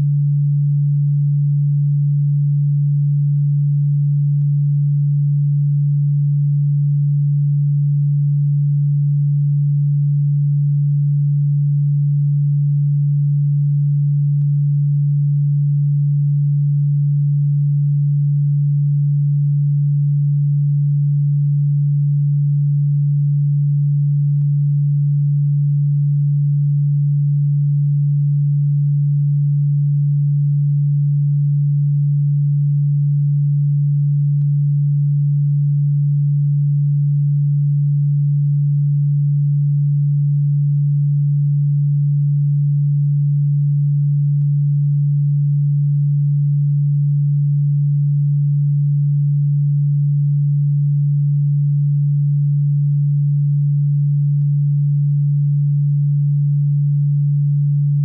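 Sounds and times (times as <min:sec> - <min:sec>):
low-pitched pure tone: 0:00.0 - 0:58.0.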